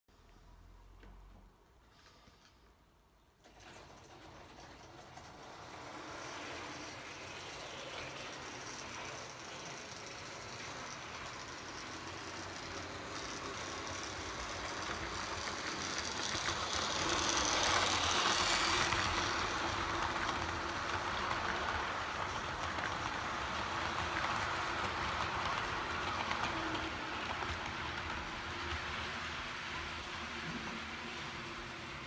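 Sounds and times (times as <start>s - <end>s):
model train wheels on track: 3.4s - 32.0s.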